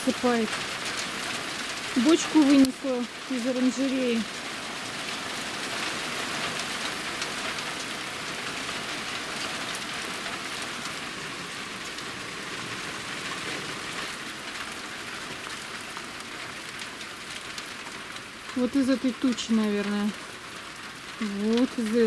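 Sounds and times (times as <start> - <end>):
hail hitting the ground: 0.0 - 22.0.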